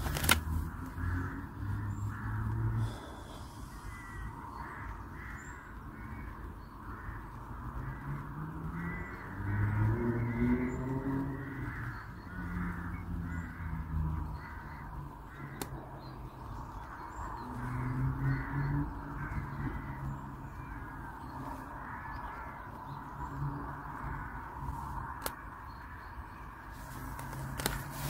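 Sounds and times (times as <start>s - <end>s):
birds harsh calls: 0.0s - 28.0s.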